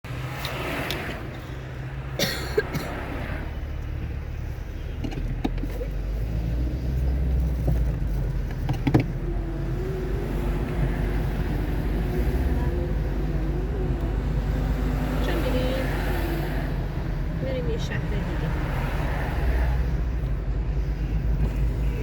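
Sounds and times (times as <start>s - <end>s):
car driving on wet road: 0.1s - 22.0s.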